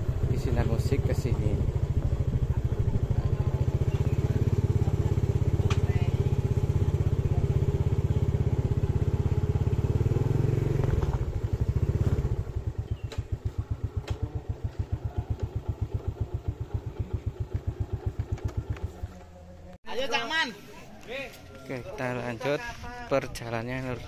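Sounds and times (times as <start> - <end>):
motorcycle engine idling: 0.0 - 19.8.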